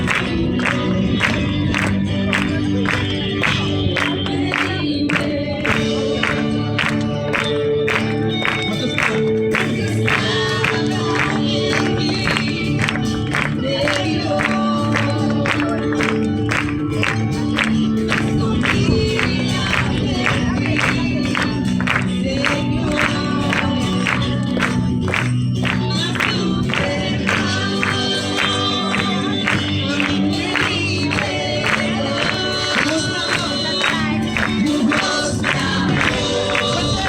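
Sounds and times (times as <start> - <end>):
many voices singing: 0.0 - 37.0
music with steady beat: 0.0 - 37.0.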